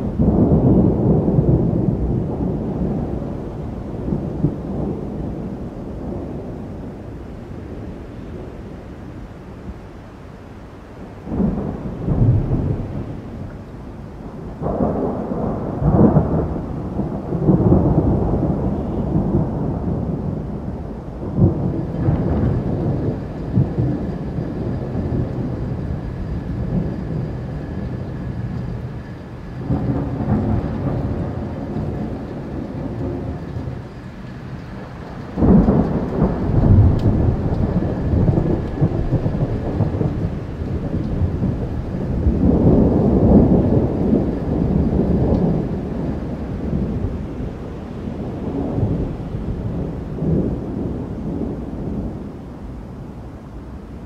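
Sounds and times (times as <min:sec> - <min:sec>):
thunder rumbling: 0:00.0 - 0:09.8, 0:11.0 - 0:54.0
steady rain: 0:00.0 - 0:54.0.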